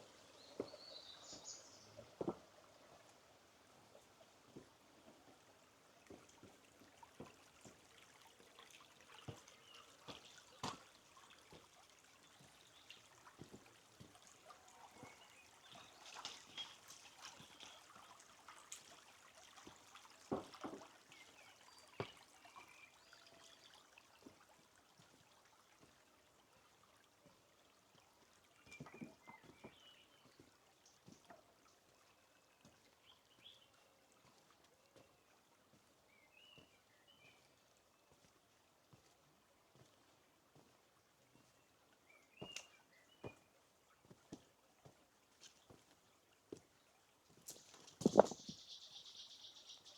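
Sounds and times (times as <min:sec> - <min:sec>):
trickling stream: 0:00.0 - 0:49.9.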